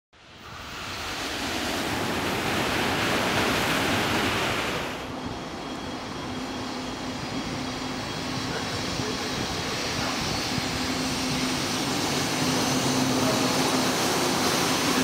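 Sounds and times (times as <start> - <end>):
train rushing past: 0.3 - 15.0.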